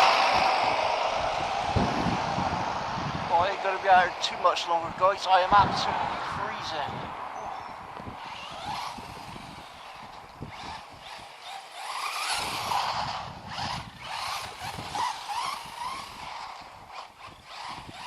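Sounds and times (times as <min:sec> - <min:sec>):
rc car motor whine: 0:00.0 - 0:04.0, 0:06.6 - 0:18.0.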